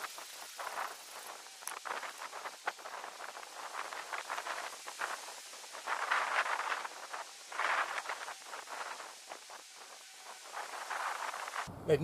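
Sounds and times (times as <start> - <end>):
rustling and scraping of leaves: 0.0 - 11.7.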